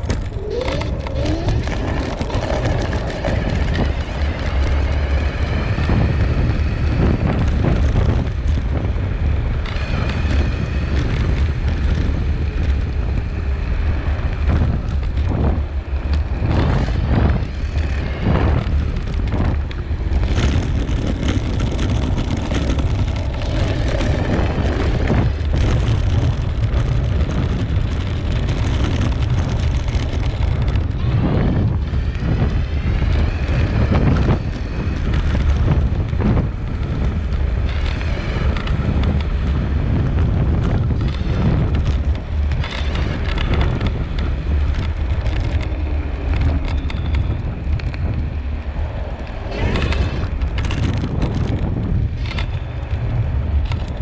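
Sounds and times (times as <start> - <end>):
tyre rumble on asphalt: 0.0 - 54.0
wind noise on microphone: 0.0 - 54.0.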